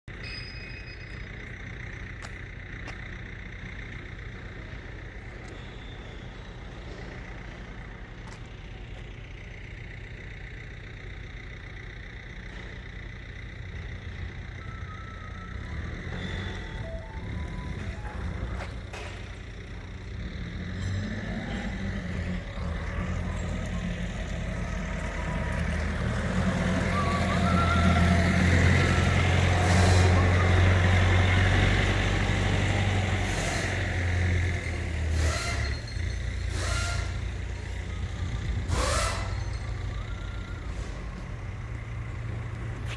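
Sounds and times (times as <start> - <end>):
vehicle engine running: 0.0 - 42.9.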